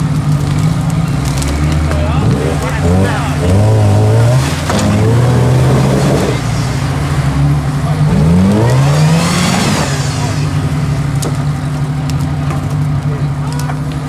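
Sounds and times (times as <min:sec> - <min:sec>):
engine revving under load: 0:00.0 - 0:14.0.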